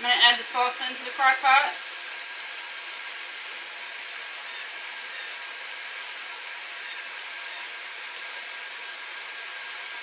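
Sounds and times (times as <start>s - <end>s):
faucet water running: 0.0s - 10.0s.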